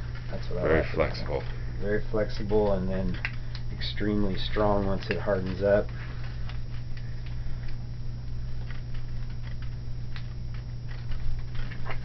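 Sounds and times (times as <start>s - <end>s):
steady low hum: 0.0s - 12.0s
gloved hands clicking and crackling: 0.1s - 12.0s.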